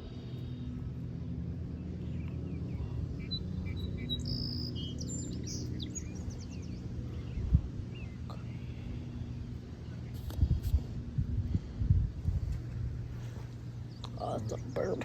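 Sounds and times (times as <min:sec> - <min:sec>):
songbirds chirping: 0:00.0 - 0:10.6, 0:11.5 - 0:15.0
steady low hum: 0:00.0 - 0:15.0.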